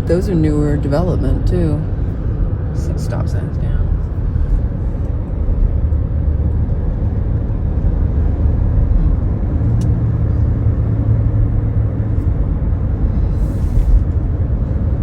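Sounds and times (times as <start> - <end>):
car road rumble: 0.0 - 15.0
low engine hum: 0.0 - 15.0.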